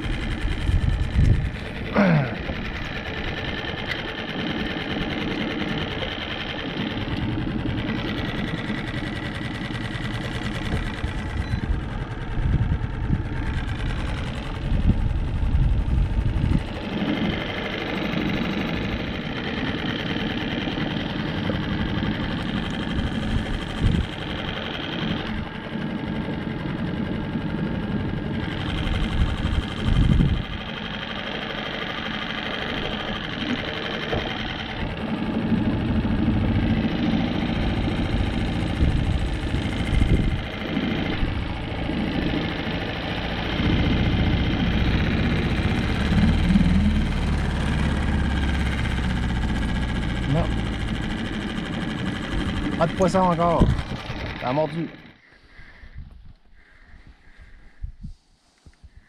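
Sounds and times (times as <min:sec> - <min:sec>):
small motor whining: 0:00.0 - 0:56.5.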